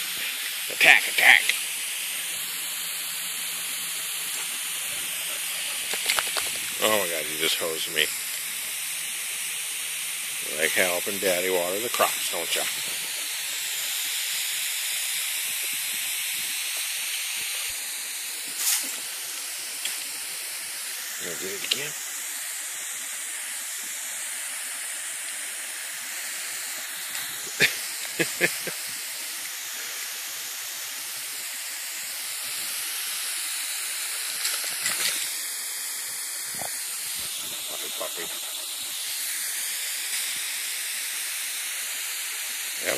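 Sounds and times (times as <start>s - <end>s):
hose nozzle spraying water: 0.0s - 42.9s.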